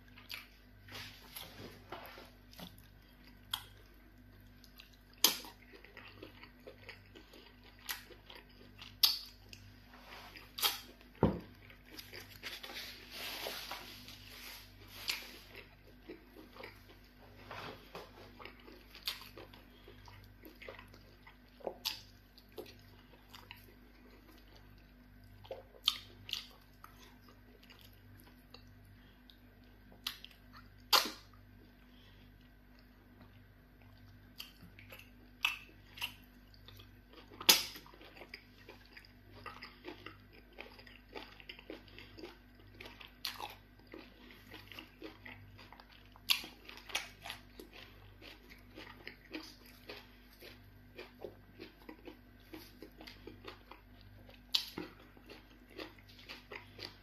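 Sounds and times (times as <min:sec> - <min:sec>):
wet chewing and mouth smacks: 0:00.0 - 0:00.6, 0:02.4 - 0:13.1, 0:18.1 - 0:31.8, 0:32.4 - 0:57.0.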